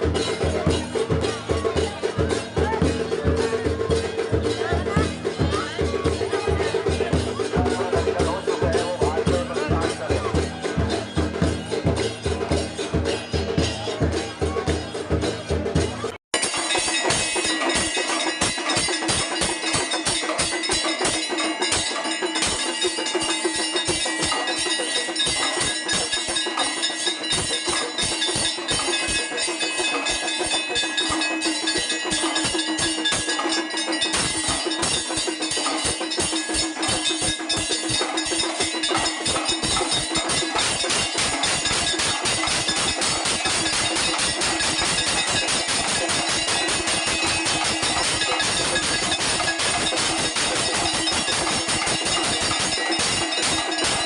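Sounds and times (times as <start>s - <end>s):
bells and cymbals clanging: 0.0s - 54.0s
drums beating rapidly: 0.0s - 54.0s.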